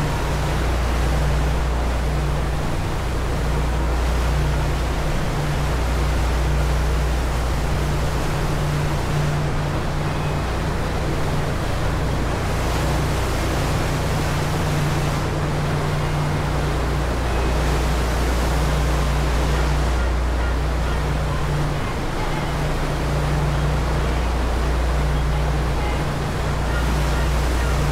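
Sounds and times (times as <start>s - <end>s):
low engine hum: 0.0s - 27.9s
water wash of wake: 0.0s - 27.9s
wind: 0.0s - 27.9s.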